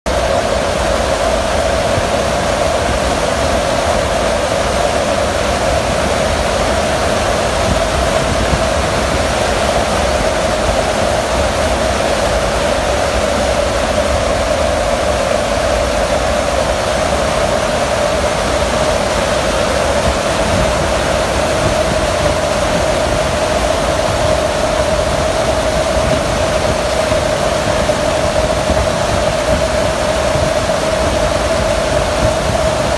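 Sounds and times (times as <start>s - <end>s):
aircraft engine drone: 0.1s - 32.9s
rushing air: 0.1s - 32.9s.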